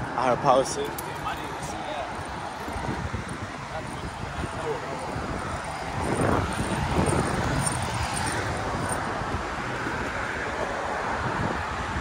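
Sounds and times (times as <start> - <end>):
road traffic: 0.0 - 12.0
wind on microphone: 1.3 - 12.0.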